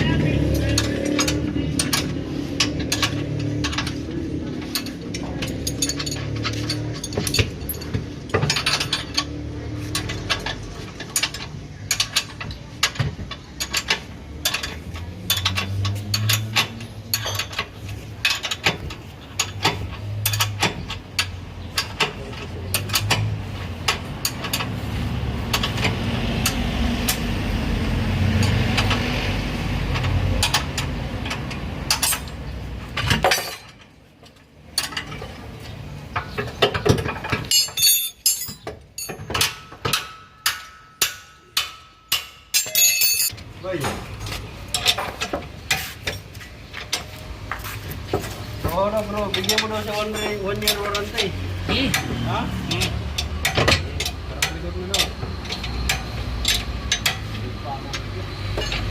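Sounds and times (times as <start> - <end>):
metal tools clinking and tapping: 0.0 - 27.4, 28.2 - 58.9.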